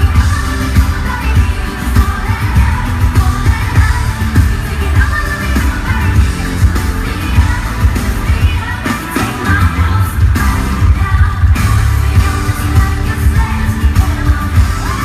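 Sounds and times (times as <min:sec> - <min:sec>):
female vocal group singing: 0:00.0 - 0:15.0
pop backing track with heavy bass: 0:00.0 - 0:15.0.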